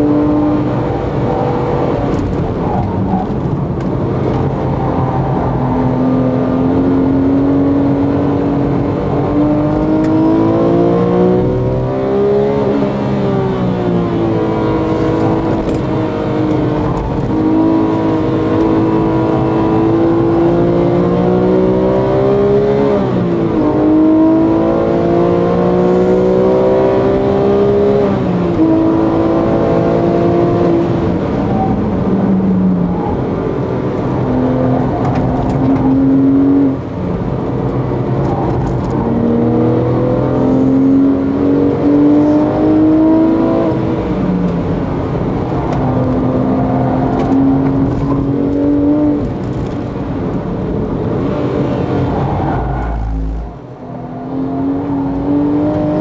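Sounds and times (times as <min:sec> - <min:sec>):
car engine heard from inside: 0:00.0 - 0:56.0.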